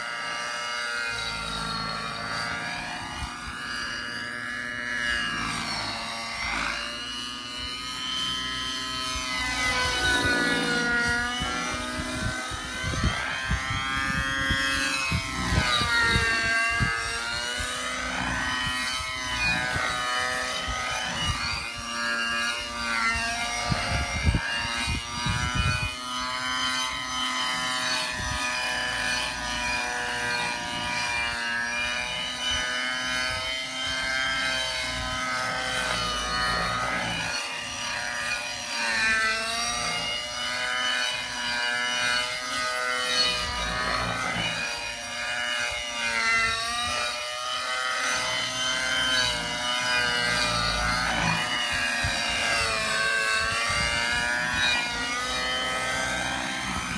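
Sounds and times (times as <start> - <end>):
rc helicopter engine whining: 0.0 - 56.9.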